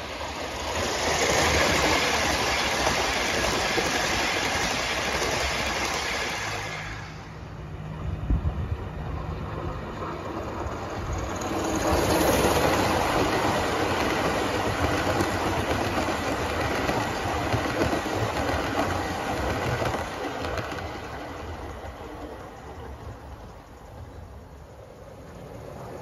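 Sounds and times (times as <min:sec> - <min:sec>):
model steam locomotive running: 0:00.0 - 0:07.9, 0:08.6 - 0:26.0
wheels on track: 0:00.0 - 0:26.0.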